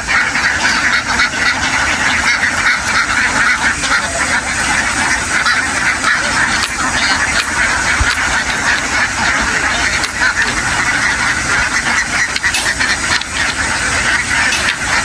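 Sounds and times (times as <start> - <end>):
flock of ducks quacking: 0.0 - 15.0
low engine rumble: 0.0 - 15.0.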